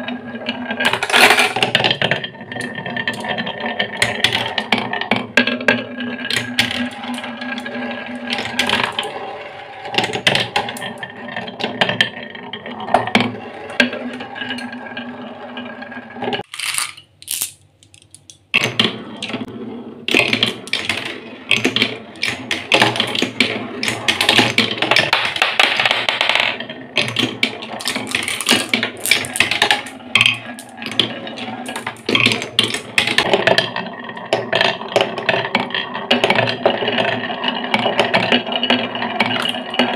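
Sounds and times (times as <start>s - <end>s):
marble rolling on spiral track: 0.0s - 17.0s, 17.9s - 39.9s
marbles clattering on wooden rails: 0.0s - 19.5s, 20.1s - 39.9s.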